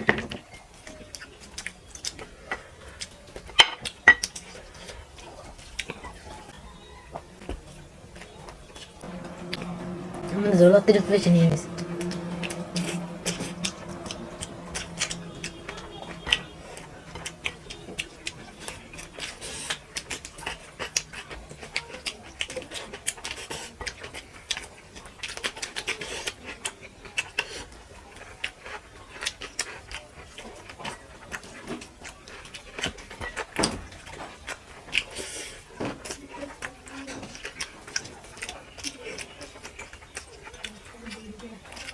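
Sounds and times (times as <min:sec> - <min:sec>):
wet chewing sounds: 0:00.0 - 0:41.9.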